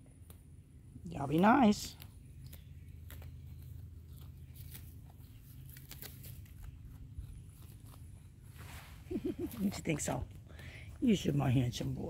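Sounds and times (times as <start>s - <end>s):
goats chewing grass: 0.0s - 12.0s.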